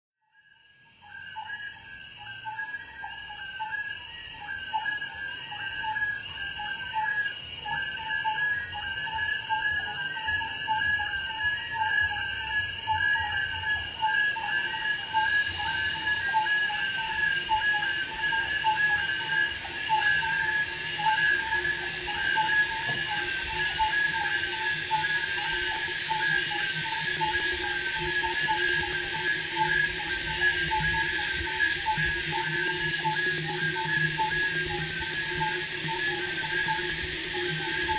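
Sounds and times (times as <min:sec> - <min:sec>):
crickets chirring: 0:00.4 - 0:37.9
low pulsing chirps: 0:00.8 - 0:37.9.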